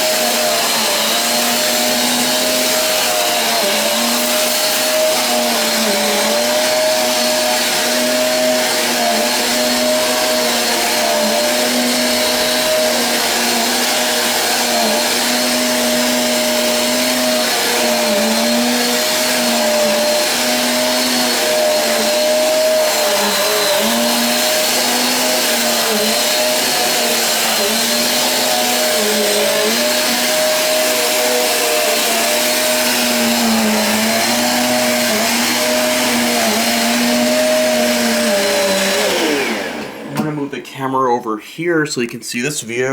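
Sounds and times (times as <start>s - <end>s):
upright vacuum cleaner running: 0.0s - 40.6s.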